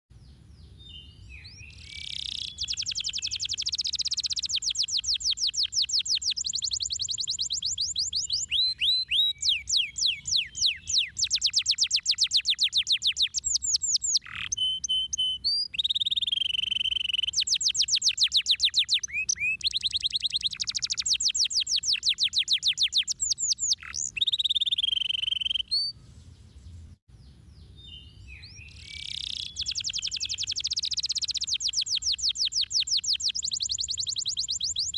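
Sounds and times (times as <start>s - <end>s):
canary singing trills: 0.6s - 34.9s.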